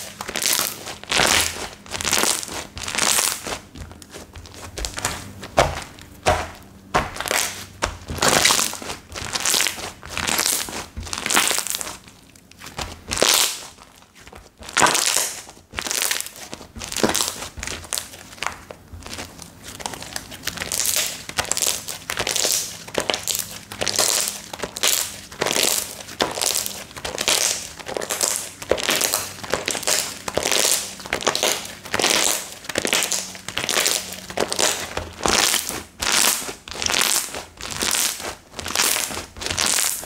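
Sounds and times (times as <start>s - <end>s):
slime crackling and crinkling: 0.0s - 40.0s.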